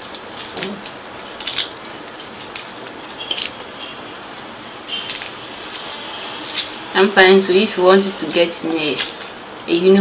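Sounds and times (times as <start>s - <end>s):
dry fish crackling and snapping: 0.0s - 3.9s, 5.0s - 6.8s, 7.4s - 9.7s.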